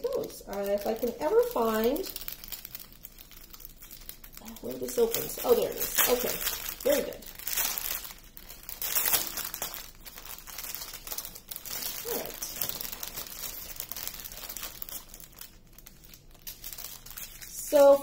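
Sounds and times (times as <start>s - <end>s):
plastic packet crinkling: 0.0s - 18.0s.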